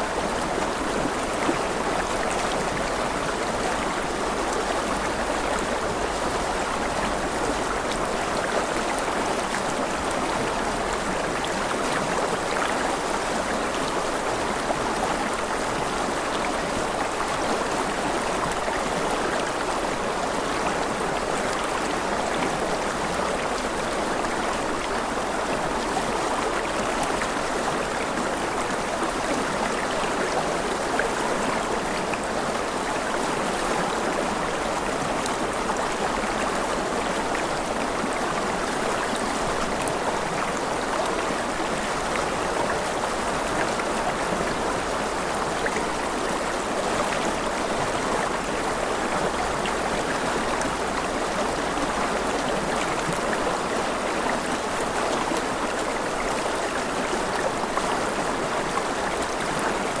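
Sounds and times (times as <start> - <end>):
stream water rushing: 0.0 - 60.0.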